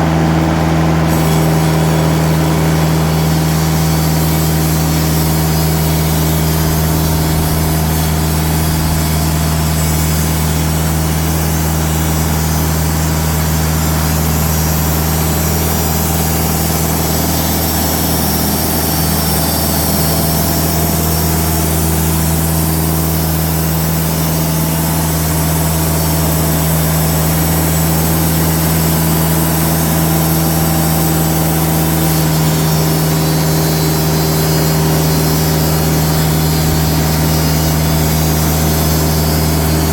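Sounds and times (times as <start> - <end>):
sawmill diesel engine running: 0.0 - 39.9
band blade cutting log: 1.0 - 39.9.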